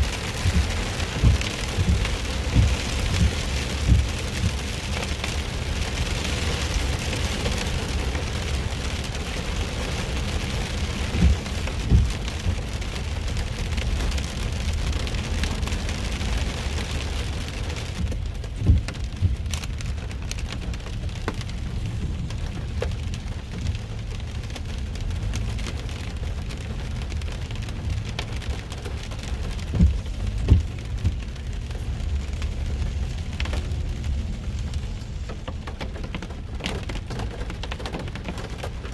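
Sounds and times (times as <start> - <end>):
heavy rain on a car: 0.0 - 38.9
low road rumble: 0.0 - 38.9.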